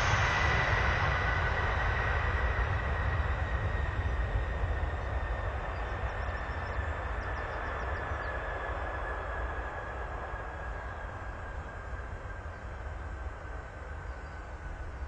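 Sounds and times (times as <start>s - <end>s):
high jet engine whine: 0.0s - 15.0s
jet engines rumbling: 0.0s - 15.0s.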